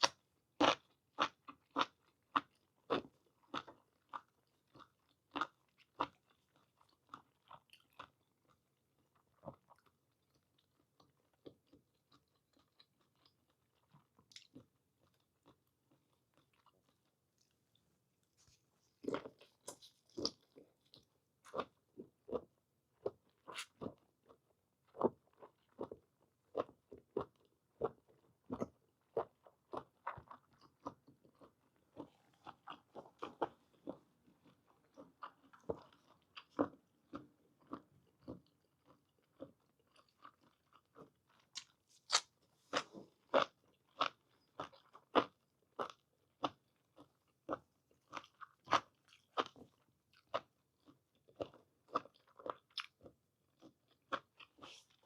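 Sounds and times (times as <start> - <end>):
person chewing: 9.1 - 17.6, 18.3 - 55.0.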